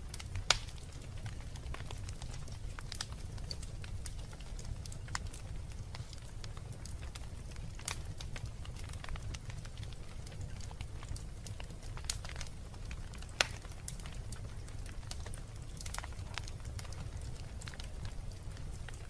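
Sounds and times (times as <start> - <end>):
low rumble of flames: 0.0 - 19.0
wood fire crackles and pops: 0.0 - 19.0.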